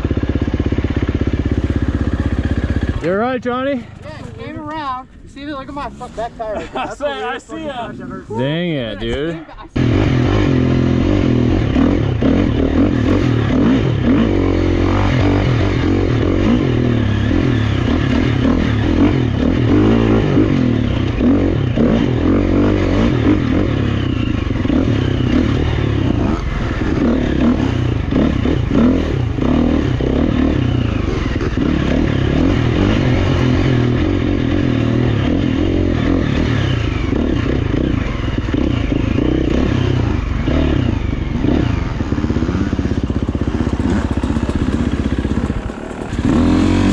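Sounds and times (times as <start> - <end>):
dirt bike engine revving: 0.0 - 4.0, 7.8 - 46.9.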